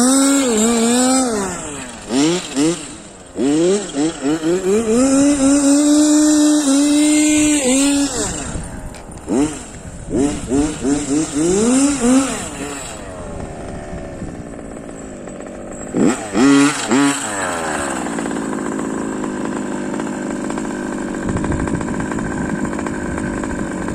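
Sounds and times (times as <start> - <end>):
two-stroke engine revving and idling: 0.0 - 23.9.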